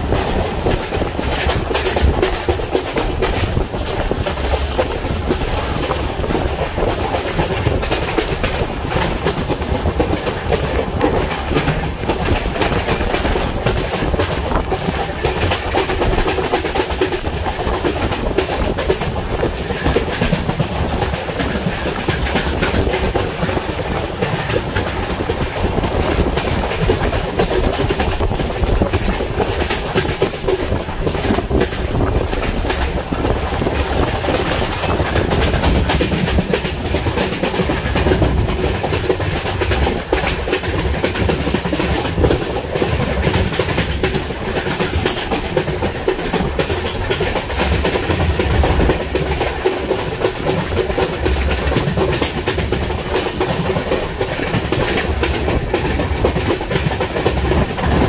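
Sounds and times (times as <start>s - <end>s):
coach clicking and rattling: 0.0s - 58.0s
train wheels rumbling on track: 0.0s - 58.0s.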